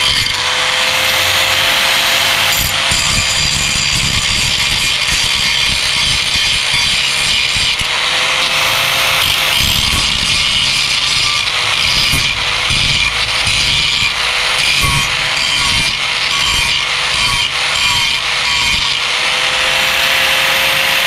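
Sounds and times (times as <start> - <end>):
angle grinder grinding metal: 0.0 - 21.0.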